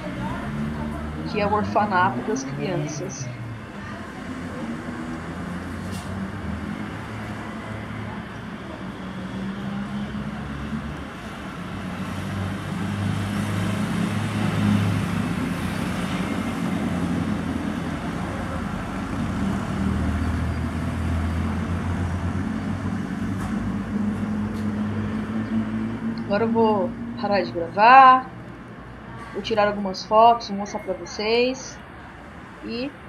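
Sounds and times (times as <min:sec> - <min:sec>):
road traffic engines humming: 0:00.0 - 0:33.0.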